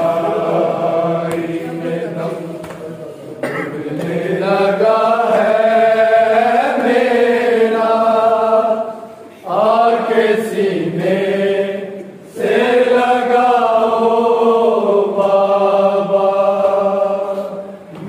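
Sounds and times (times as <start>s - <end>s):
group chanting a mourning lament: 0.0s - 18.0s.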